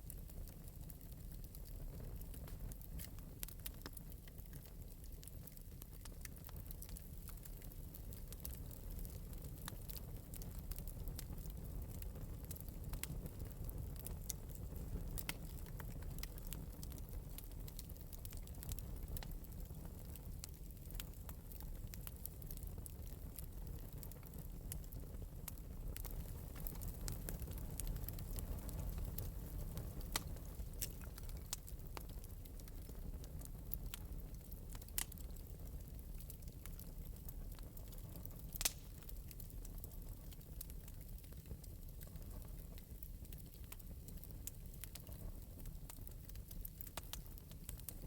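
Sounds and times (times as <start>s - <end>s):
fire crackles and pops: 0.0s - 48.0s
wood fire rumble: 0.0s - 48.0s.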